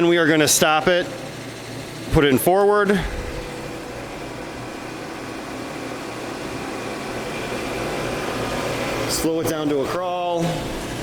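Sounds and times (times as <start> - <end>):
drum sander motor humming: 0.0 - 11.0.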